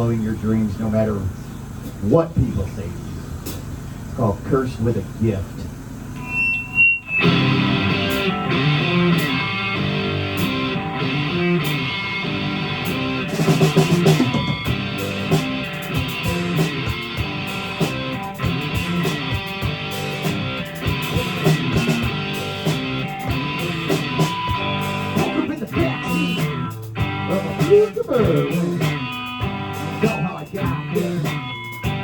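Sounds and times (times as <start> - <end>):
guitar strumming: 6.1 - 32.0.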